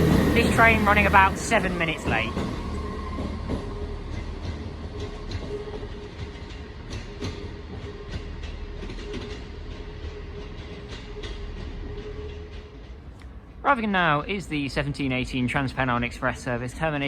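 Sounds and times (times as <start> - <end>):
diesel train engine rumbling: 0.0 - 17.0
wheels clicking over rail joints: 0.0 - 17.0.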